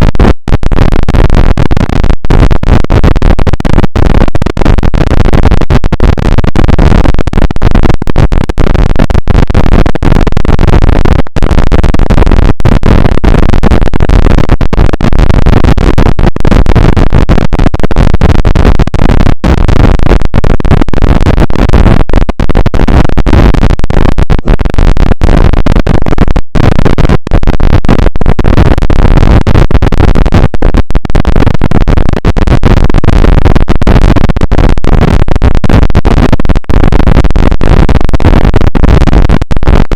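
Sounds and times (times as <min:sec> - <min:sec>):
harsh distorted noise: 0:00.0 - 0:39.9.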